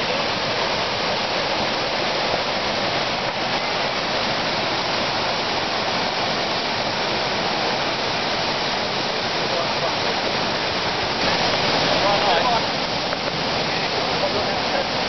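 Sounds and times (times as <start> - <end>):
river rapids rushing over rocks: 0.0 - 15.0.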